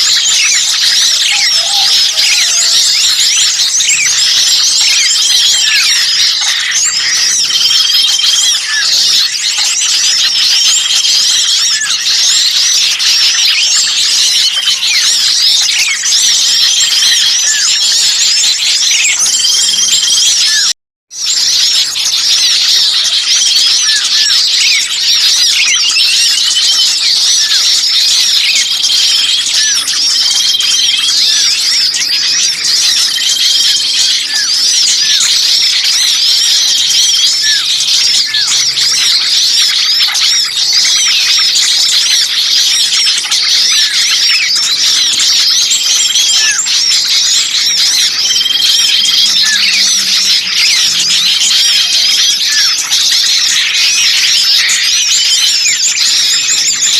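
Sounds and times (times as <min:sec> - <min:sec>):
bird trills: 0:00.0 - 0:56.9
chorus of songbirds chattering: 0:00.0 - 0:56.9.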